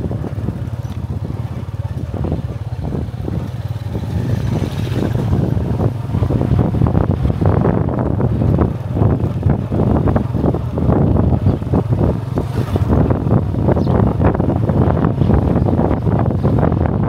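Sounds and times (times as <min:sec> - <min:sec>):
motorcycle passing by: 0:00.0 - 0:16.8
small motorcycle engine running: 0:00.0 - 0:17.0
wind buffeting microphone: 0:00.0 - 0:17.0.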